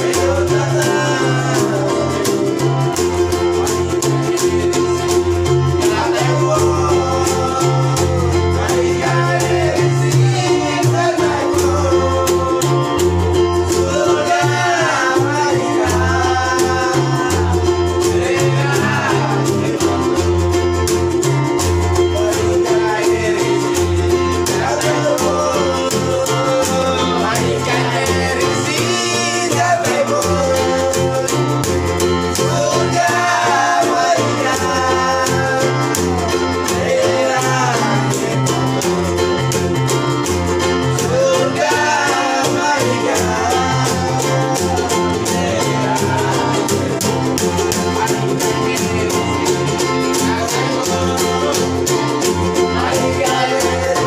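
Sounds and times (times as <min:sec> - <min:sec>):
group of men singing: 0:00.0 - 0:54.0
plucked string bass: 0:00.0 - 0:54.0
strummed ukuleles: 0:00.0 - 0:54.0.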